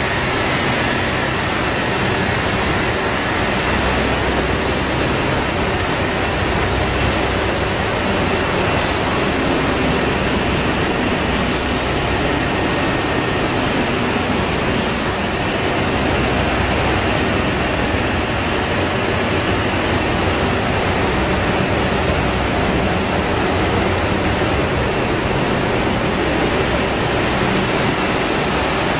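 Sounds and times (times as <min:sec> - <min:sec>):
production line machinery din: 0:00.0 - 0:28.9.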